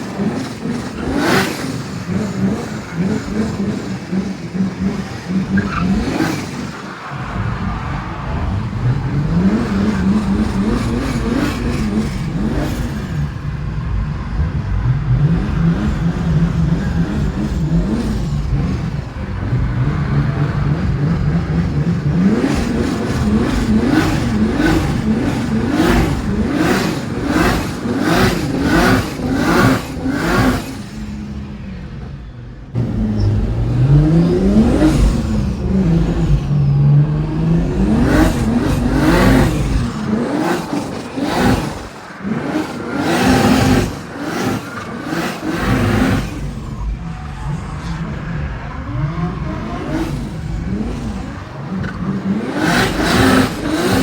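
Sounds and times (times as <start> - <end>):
car engine revving hard: 0.0 - 31.7, 32.7 - 54.0.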